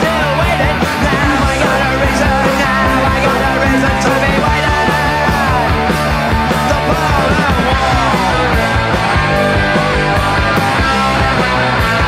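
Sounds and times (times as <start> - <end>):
punk rock band playing: 0.0 - 12.0
sliding high lead guitar line: 0.0 - 12.0
steady drum beat: 0.0 - 12.0.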